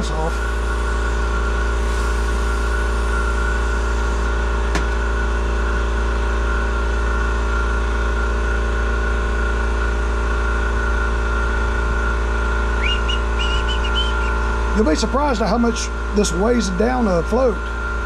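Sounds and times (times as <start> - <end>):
shop machine humming: 0.0 - 18.0.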